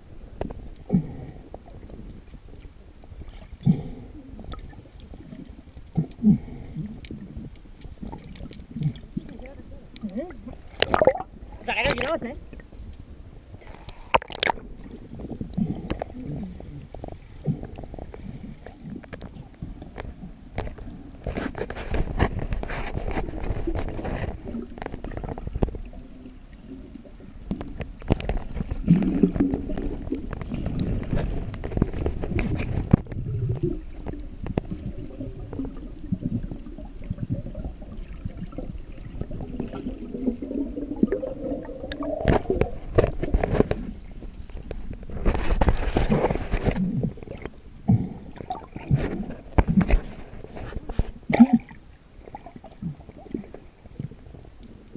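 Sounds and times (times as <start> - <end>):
water gurgling and bubbling underwater: 0.0 - 54.9
underwater clicks and knocks: 4.4 - 54.8.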